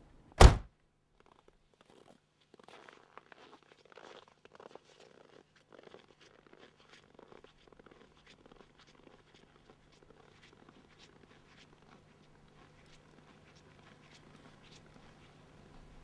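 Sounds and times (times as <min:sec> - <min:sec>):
footsteps crunching on snow: 0:01.2 - 0:16.0.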